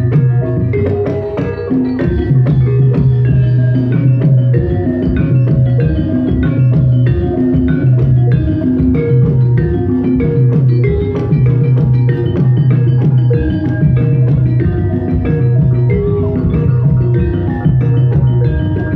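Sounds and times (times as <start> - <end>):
drum strokes: 0.0 - 18.9
metallophones struck with mallets: 0.0 - 18.9.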